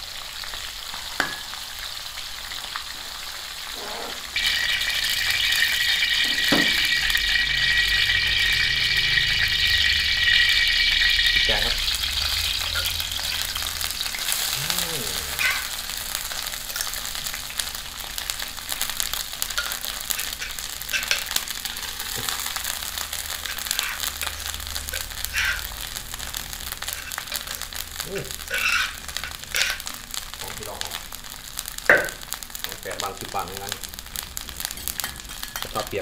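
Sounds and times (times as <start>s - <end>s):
curry paste sizzling in oil: 0.0s - 36.0s.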